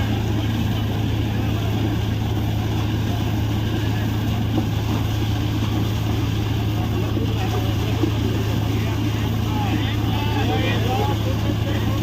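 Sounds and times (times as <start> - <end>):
drilling rig engine drone: 0.0 - 12.0.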